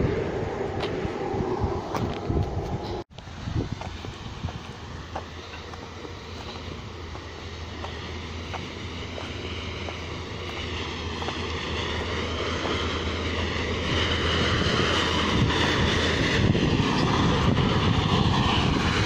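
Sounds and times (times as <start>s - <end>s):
diesel excavator engine running: 0.1s - 15.4s.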